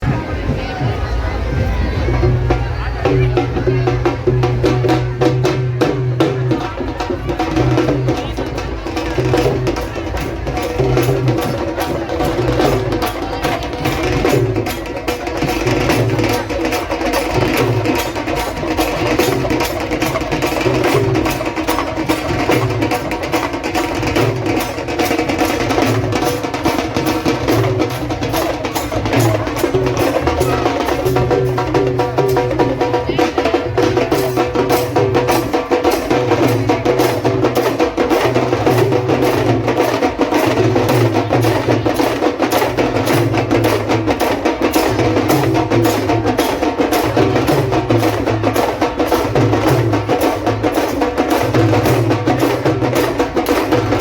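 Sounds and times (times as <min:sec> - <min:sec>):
traditional percussion music: 0:00.0 - 0:54.0.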